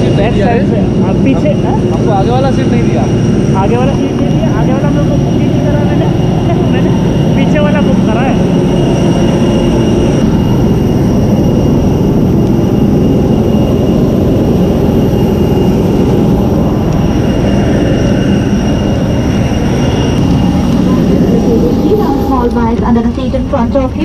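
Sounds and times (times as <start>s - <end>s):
high whine: 0.0s - 24.0s
jet turbines rumbling: 0.0s - 24.0s.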